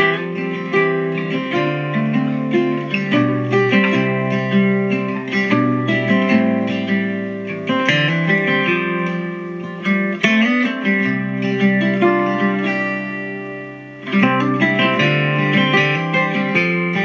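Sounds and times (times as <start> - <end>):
acoustic guitar music through speaker: 0.0 - 17.0.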